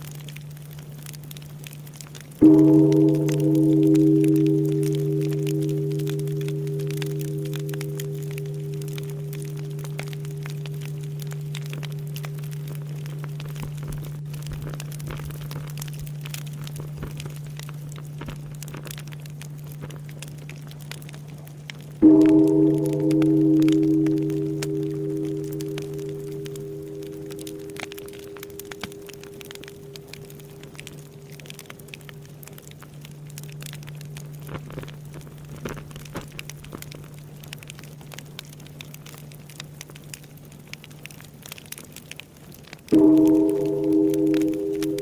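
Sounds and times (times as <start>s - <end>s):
bonfire crackling and popping: 0.0s - 45.0s
temple bell hum: 2.3s - 38.0s, 42.9s - 45.0s.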